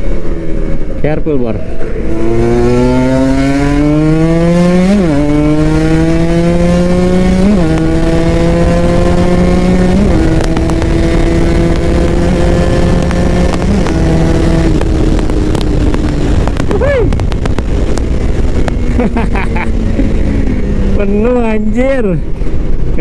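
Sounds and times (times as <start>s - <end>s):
motorcycle engine accelerating: 0.0s - 23.0s
gear upshifts: 1.5s - 23.0s.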